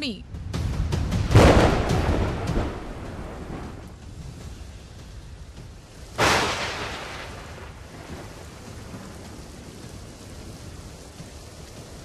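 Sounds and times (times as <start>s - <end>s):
steady rain: 0.3s - 12.0s
thunderclap rumbling: 0.6s - 12.0s.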